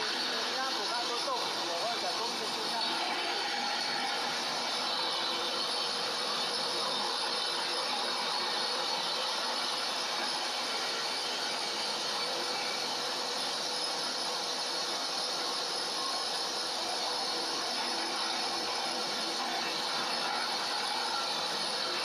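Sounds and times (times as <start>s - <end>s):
grinder whirring and rattling: 0.0s - 22.0s.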